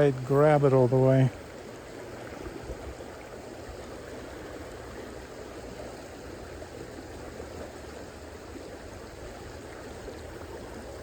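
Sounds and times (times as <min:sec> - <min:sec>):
creek rushing and babbling: 0:00.0 - 0:11.0.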